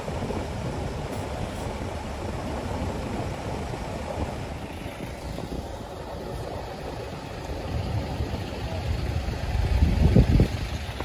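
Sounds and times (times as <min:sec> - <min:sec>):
diesel truck engines rumbling: 0:00.0 - 0:11.0.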